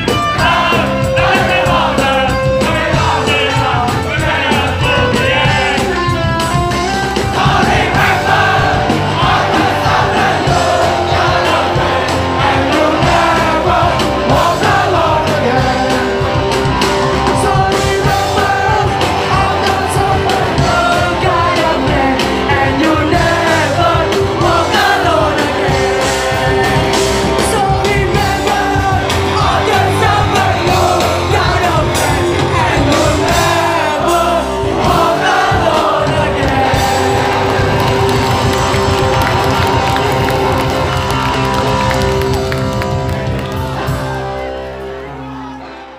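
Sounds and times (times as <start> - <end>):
person singing and yelling: 0.0 - 37.8
crowd shouting along: 0.0 - 45.9
metal band playing live: 0.0 - 45.9.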